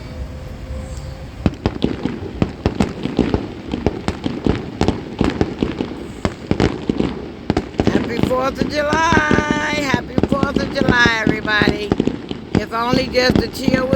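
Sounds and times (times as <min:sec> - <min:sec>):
fireworks crackling and popping: 0:01.4 - 0:13.9.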